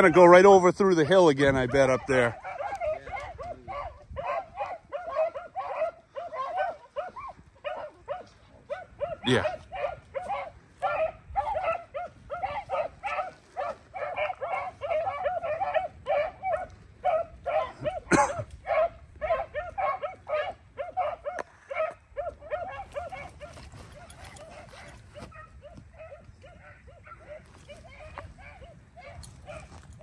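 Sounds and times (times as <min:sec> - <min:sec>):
hounds baying: 0:00.0 - 0:30.0.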